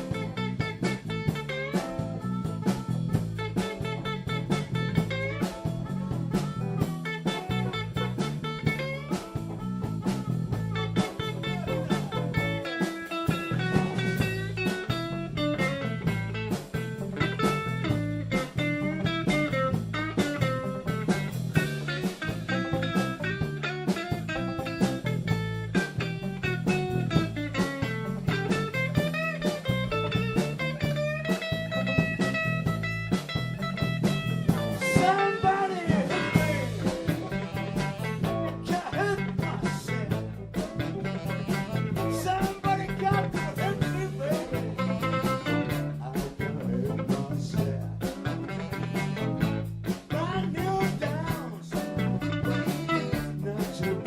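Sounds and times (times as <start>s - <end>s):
drums: 0.0s - 54.0s
lead guitar: 0.0s - 54.0s
live blues band playing: 0.0s - 54.0s
walking bass line: 0.0s - 54.0s.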